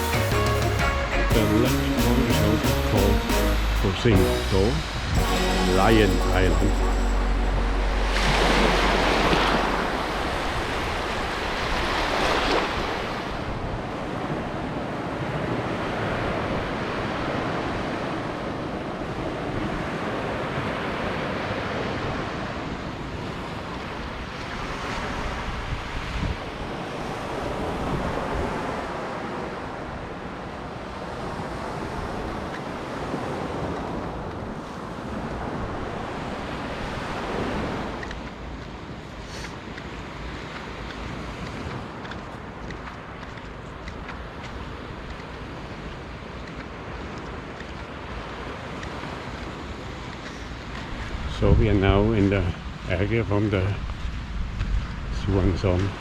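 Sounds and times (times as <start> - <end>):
sea waves breaking on beach: 1.0 - 56.0.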